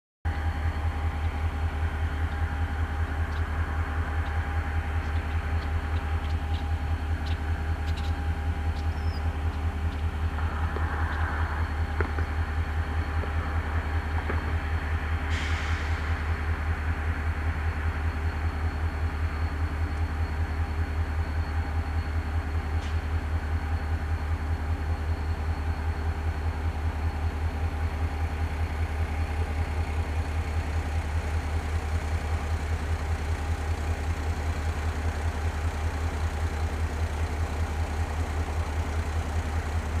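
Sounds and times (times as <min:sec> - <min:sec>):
diesel locomotive idling: 0:00.3 - 0:40.0.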